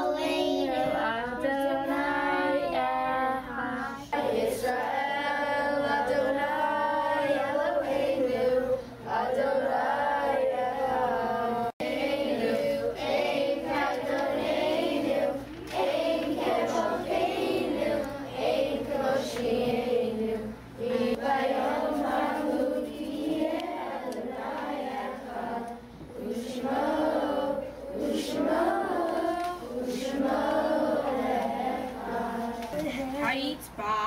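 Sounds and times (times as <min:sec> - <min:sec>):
children singing in unison: 0:00.0 - 0:32.8.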